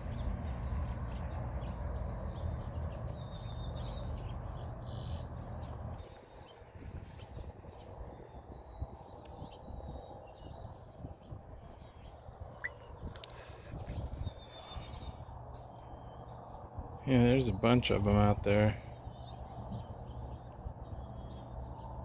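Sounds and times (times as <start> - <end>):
low outdoor rumble: 0.0 - 22.0
small birds chirping: 0.0 - 22.0.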